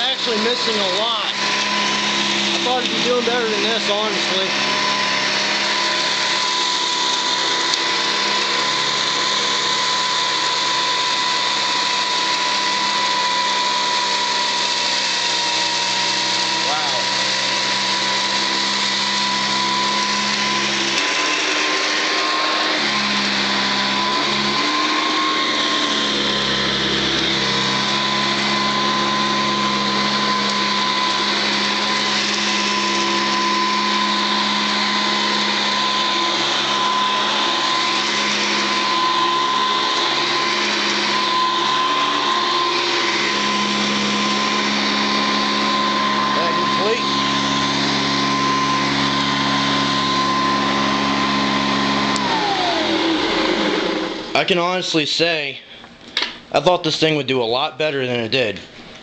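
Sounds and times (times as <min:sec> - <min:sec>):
vacuum cleaner running: 0:00.0 - 0:57.2.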